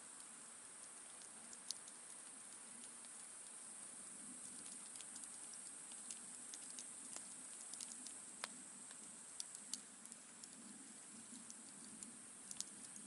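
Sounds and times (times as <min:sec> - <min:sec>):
soft hiss: 0:00.0 - 0:13.0
campfire crackling and popping: 0:00.1 - 0:13.0.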